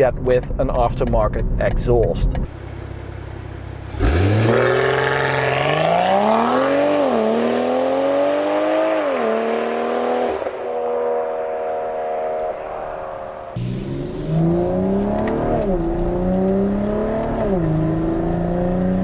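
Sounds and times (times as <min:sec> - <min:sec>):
car engine accelerating hard: 0:02.3 - 0:19.0.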